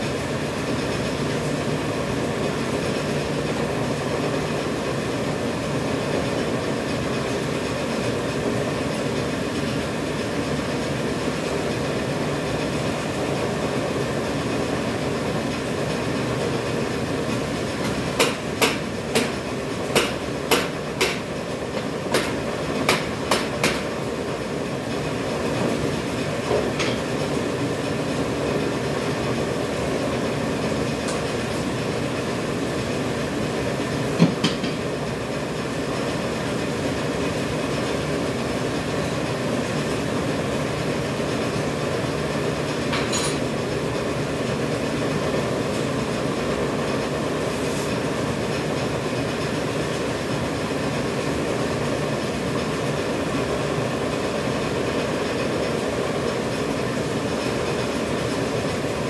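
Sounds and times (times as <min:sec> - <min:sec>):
machine running steadily: 0:00.0 - 0:59.0.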